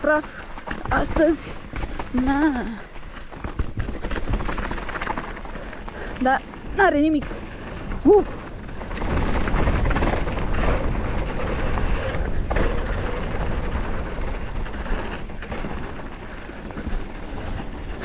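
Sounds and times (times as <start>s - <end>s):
bike tyres on dirt: 0.0s - 18.0s
chain and suspension rattling: 0.0s - 18.0s
wind rumble on microphone: 0.0s - 18.0s.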